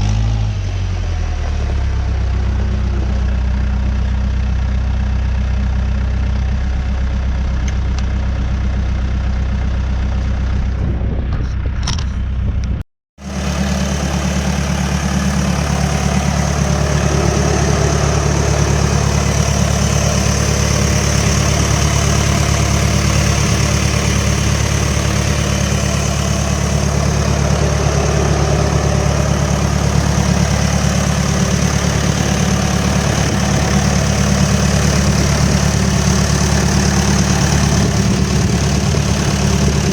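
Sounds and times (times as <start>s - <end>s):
diesel engine idling: 1.1s - 39.9s.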